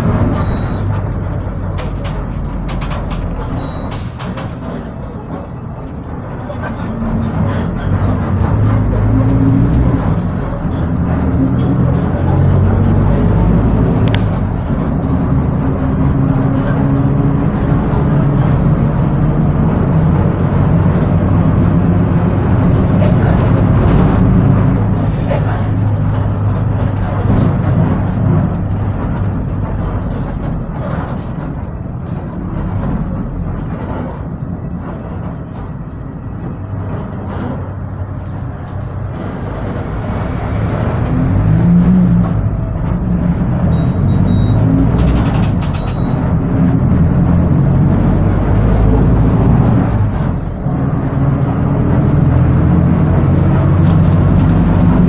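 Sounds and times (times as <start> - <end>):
bus engine running under load: 0.0 - 55.0.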